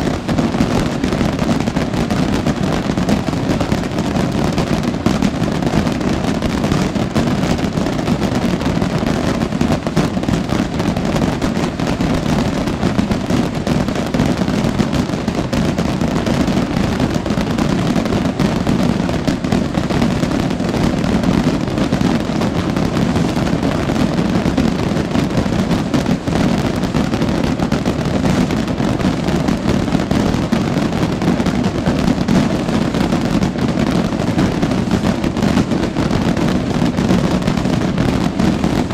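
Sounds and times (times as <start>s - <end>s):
firework rockets exploding: 0.0s - 38.9s.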